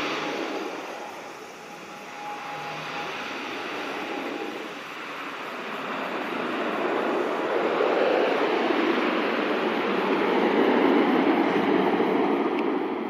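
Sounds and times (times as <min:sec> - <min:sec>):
faint steady whine: 0:00.0 - 0:13.0
turboprop airliner landing roll: 0:00.0 - 0:13.0.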